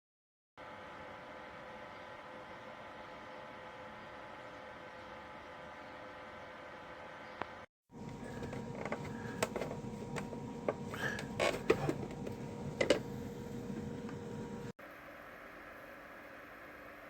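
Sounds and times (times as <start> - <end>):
dehumidifier humming: 0.6 - 17.0.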